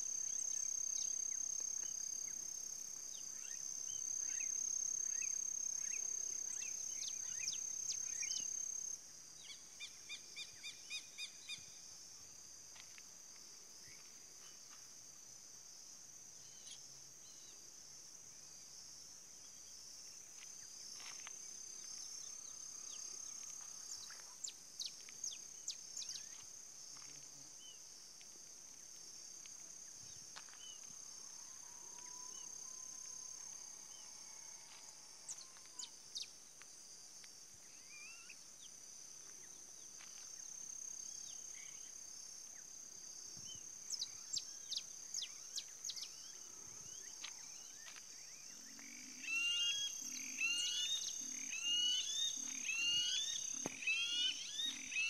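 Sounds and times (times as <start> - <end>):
insect drone: 0.0 - 55.0.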